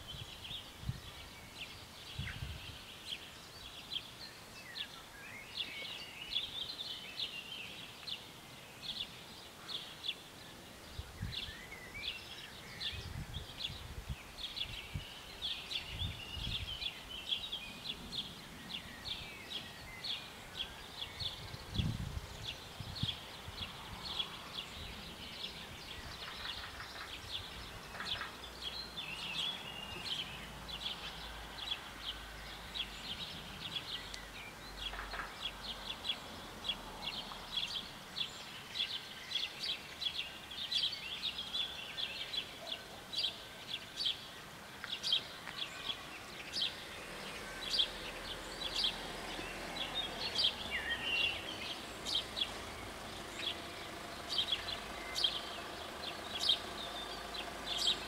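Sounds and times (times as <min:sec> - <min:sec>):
faint outdoor background: 0:00.0 - 0:58.0
small birds chirping: 0:00.0 - 0:58.0.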